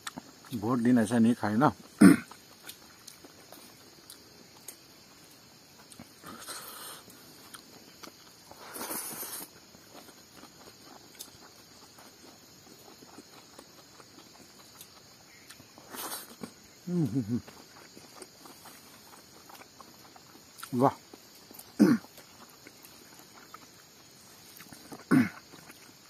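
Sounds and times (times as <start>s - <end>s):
person chewing: 0.0s - 0.6s, 1.8s - 26.0s
faint insect chirr: 0.0s - 26.0s.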